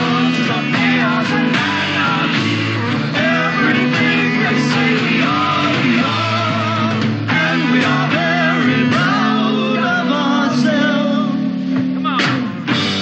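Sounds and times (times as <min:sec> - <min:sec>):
people singing wavering notes: 0:00.0 - 0:11.8
rock band playing live: 0:00.0 - 0:13.0.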